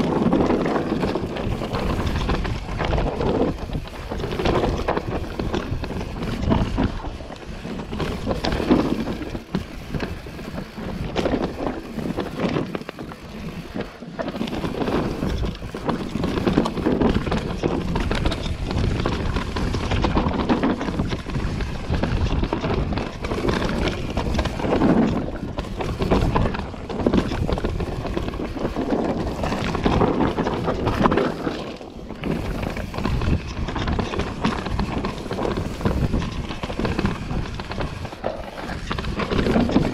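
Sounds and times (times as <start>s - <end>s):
bike rattling: 0.0s - 39.9s
tyres rumbling on dirt trail: 0.0s - 39.9s
wind buffeting microphone: 0.0s - 39.9s.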